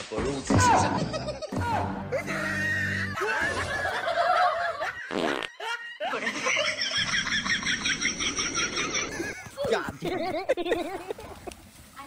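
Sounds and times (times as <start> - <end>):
person laughing: 0.9 - 11.4.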